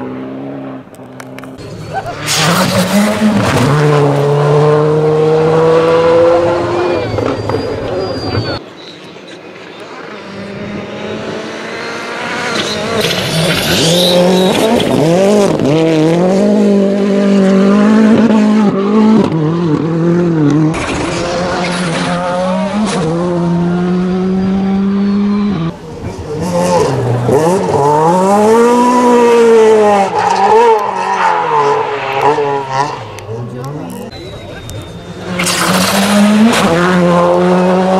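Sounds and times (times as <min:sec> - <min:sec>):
rally car engines revving: 0:00.0 - 0:37.9.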